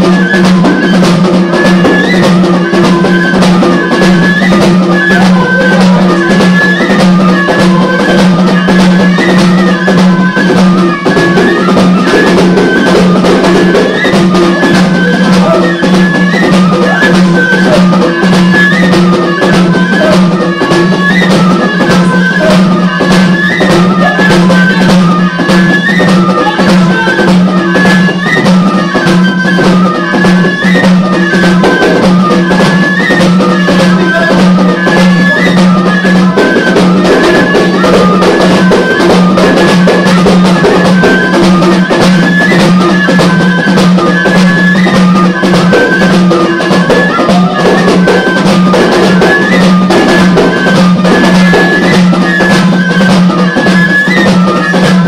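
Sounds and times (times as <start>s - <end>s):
frame drums beating: 0.0s - 55.0s
pipes playing ornamented melody: 0.0s - 55.0s.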